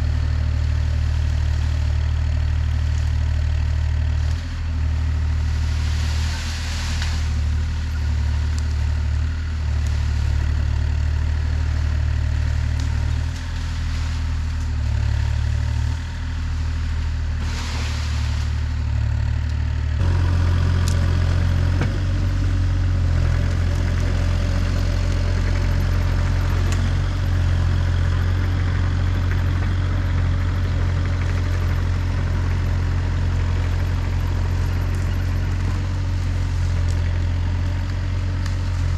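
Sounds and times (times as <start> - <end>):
earth-moving machine engine running: 0.0 - 38.9.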